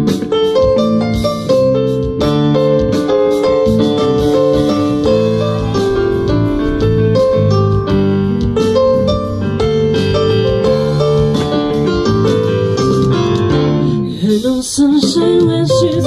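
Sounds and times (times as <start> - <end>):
keyboard chords and melody: 0.0 - 14.4.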